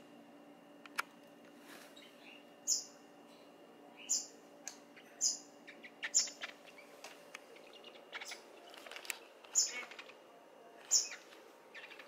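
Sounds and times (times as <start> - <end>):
birds chirping: 1.9 - 12.0.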